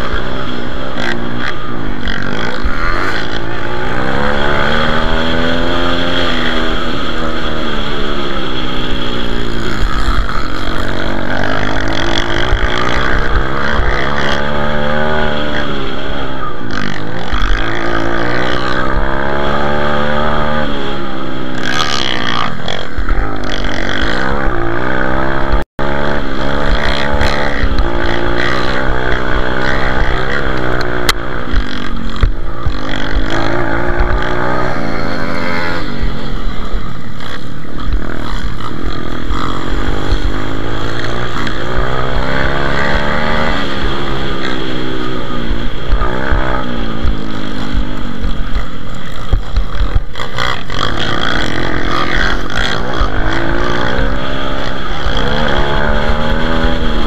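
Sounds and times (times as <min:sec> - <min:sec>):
pit bike engine racing: 0:00.0 - 0:57.0.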